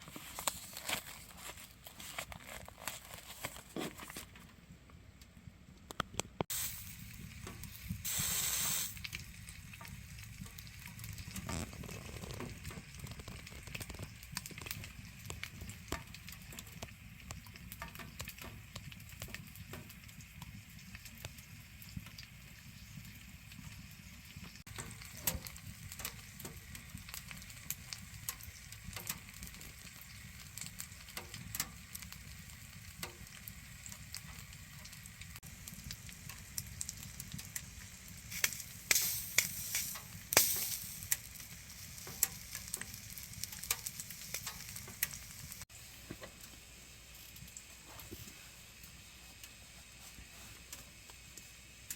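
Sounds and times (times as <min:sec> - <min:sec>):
firewood crackling and popping: 0:00.0 - 0:04.6, 0:05.3 - 0:51.9
low rumble of stove: 0:00.0 - 0:51.9.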